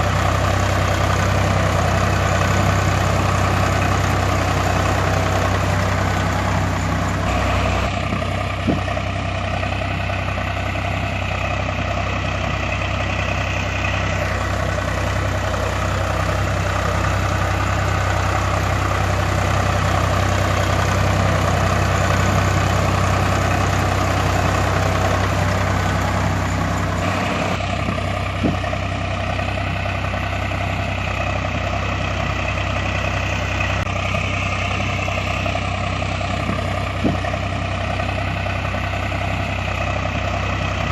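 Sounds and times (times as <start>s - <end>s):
heavy engine idling: 0.0s - 40.9s.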